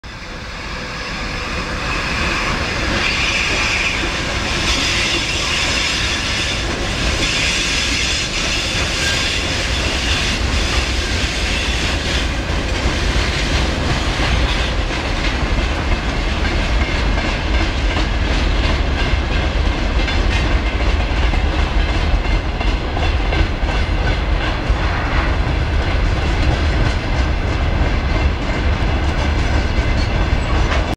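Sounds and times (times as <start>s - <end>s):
deep locomotive rumble: 0.0s - 30.9s
train wheels clattering over rail joints: 1.3s - 24.8s, 25.4s - 30.9s.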